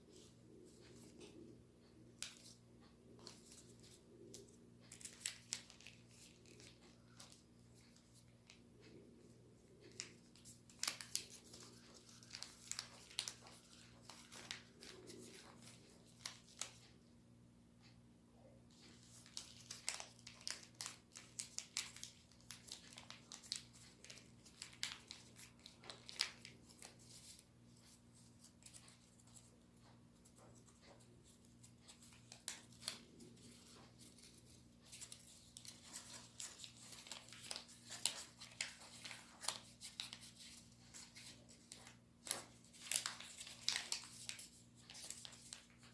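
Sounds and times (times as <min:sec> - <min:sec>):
faint steady hum: 0:00.0 - 0:45.9
paper being folded and creased: 0:03.2 - 0:08.6, 0:09.8 - 0:16.8, 0:18.7 - 0:45.9.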